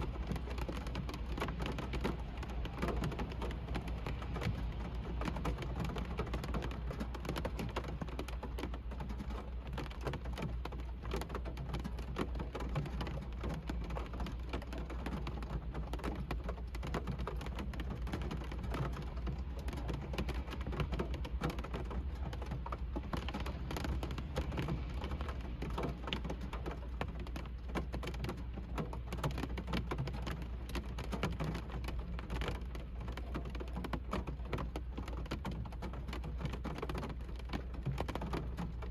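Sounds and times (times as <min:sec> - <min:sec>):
rain pattering on car roof: 0:00.0 - 0:38.9.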